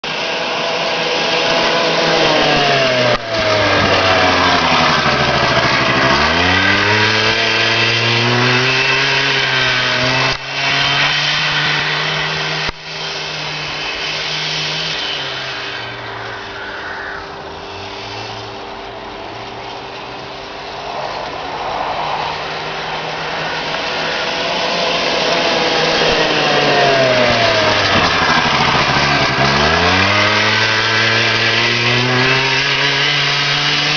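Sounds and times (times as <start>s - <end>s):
scooter engine running: 0.0s - 33.9s.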